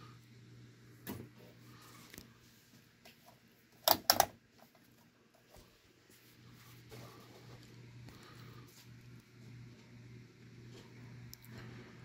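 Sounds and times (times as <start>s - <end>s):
ceiling fan motor hum: 0.0s - 12.0s.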